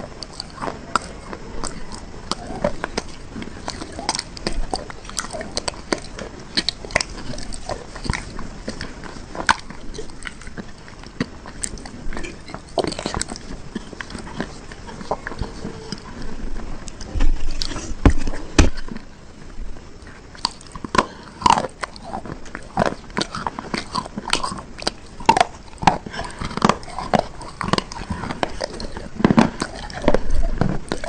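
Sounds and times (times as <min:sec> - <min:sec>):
crunchy bar being bitten: 0:00.0 - 0:16.1, 0:20.4 - 0:31.0
crunchy chewing: 0:00.0 - 0:31.0.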